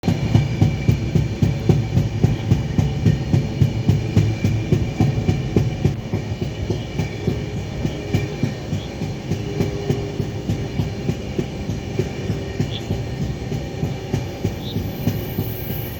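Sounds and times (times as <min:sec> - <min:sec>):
train rumbling on rails: 0:00.0 - 0:15.9
wheels thumping on rails: 0:00.0 - 0:15.9.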